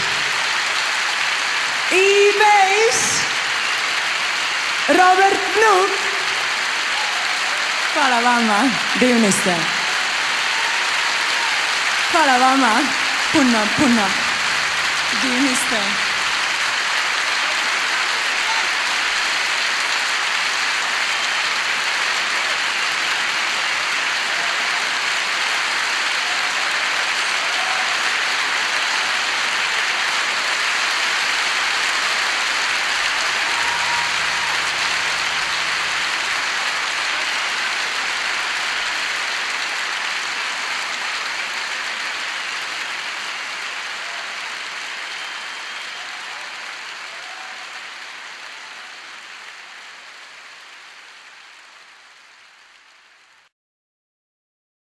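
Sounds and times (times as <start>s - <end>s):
audience applauding: 0.0s - 53.5s.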